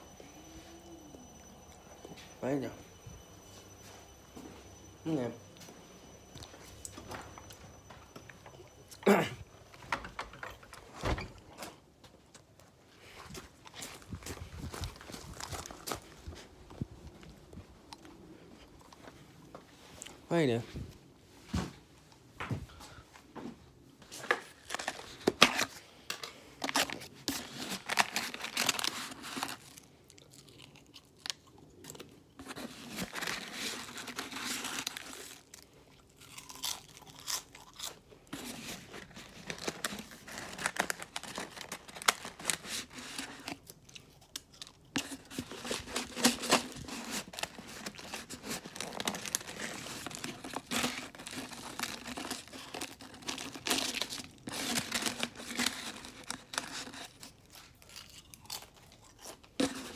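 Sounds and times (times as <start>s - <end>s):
rustling and crunching: 0.0s - 22.6s, 24.0s - 59.9s.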